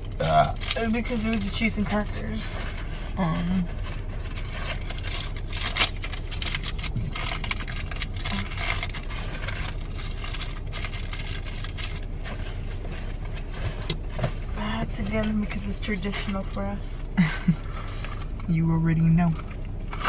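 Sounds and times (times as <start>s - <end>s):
items scraping and clicking: 0.0s - 17.1s
steady low hum: 0.0s - 20.0s.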